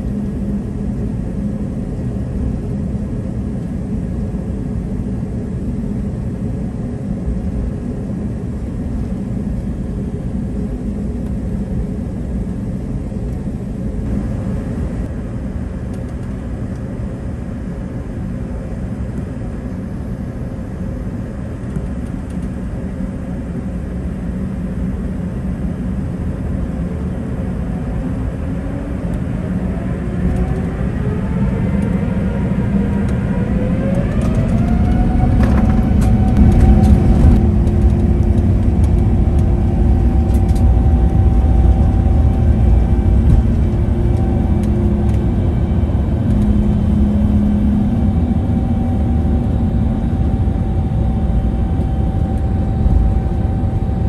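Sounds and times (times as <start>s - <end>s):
jet engines heard from cabin: 0.0s - 54.0s.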